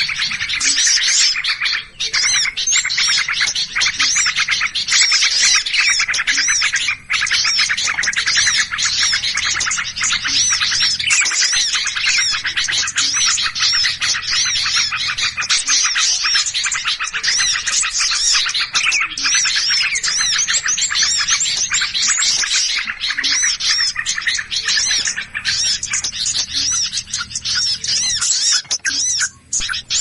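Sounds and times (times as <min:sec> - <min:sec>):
flock of small birds chirping: 0:00.0 - 0:30.0.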